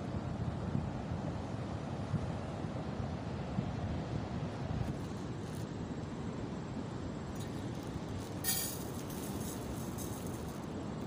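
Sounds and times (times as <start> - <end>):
wind and surf rumble: 0.0 - 11.0.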